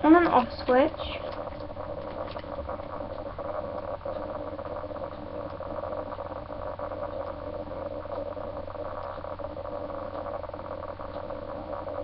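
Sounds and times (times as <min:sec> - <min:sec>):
microphone hum and hiss: 0:00.0 - 0:12.0.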